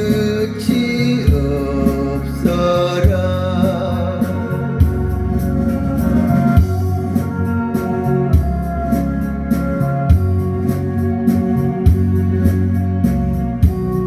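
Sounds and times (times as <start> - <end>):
electronic organ chords: 0.0 - 14.0
steady drum beat: 0.0 - 14.0.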